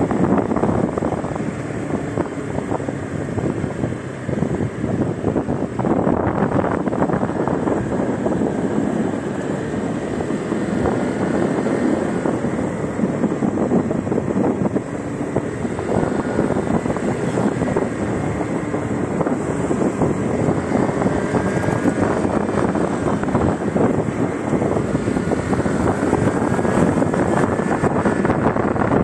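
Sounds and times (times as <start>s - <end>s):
road noise: 0.0s - 29.0s
scooter engine: 0.0s - 29.0s
wind on microphone: 0.0s - 29.0s.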